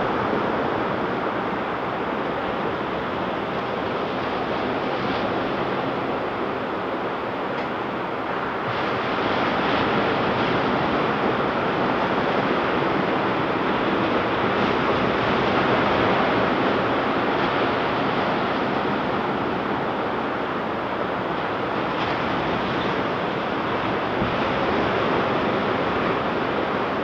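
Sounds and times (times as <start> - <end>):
ocean surf breaking on beach: 0.0 - 27.0.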